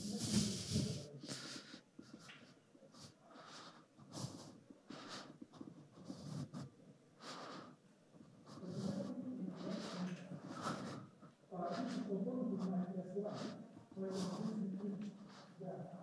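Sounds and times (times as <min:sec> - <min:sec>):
breaths close to microphone: 0:00.0 - 0:16.0.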